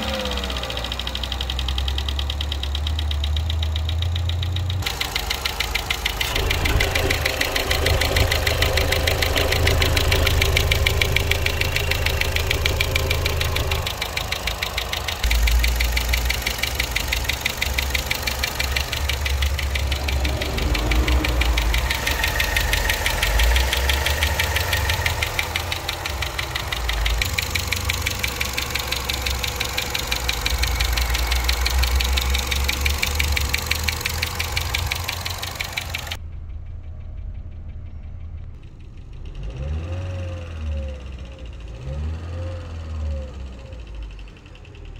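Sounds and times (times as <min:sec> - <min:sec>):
car engine idling: 0:00.0 - 0:44.9
fast even engine ticking: 0:00.0 - 0:44.9.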